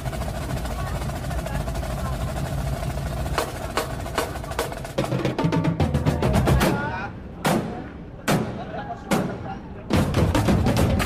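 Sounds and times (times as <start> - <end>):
drum strikes and rolls: 0.0 - 11.0.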